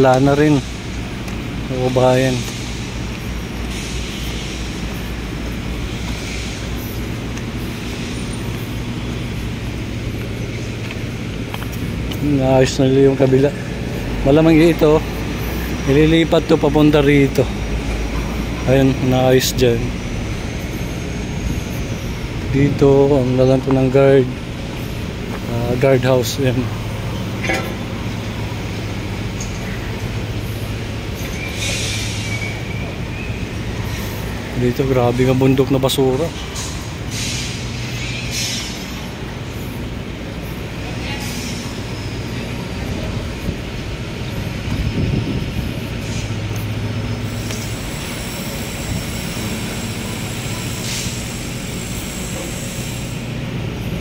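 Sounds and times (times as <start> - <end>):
road noise: 0.0 - 54.0
vehicle engine hum: 0.0 - 54.0.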